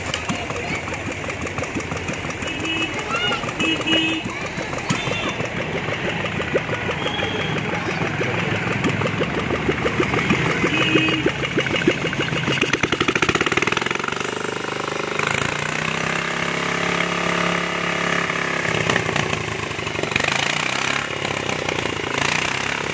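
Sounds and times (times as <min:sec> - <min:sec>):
motorcycle engine running and revving: 0:00.0 - 0:22.9.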